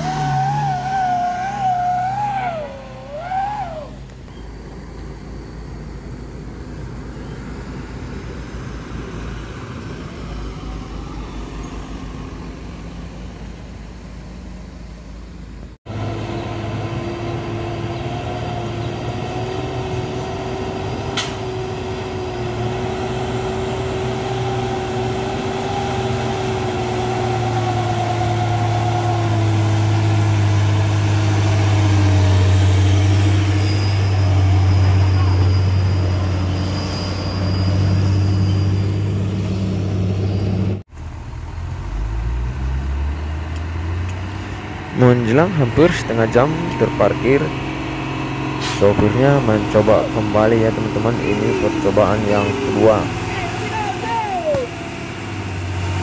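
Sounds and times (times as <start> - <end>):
distant car and truck engines: 0.0 - 56.0
truck diesel engine labouring: 0.0 - 56.0.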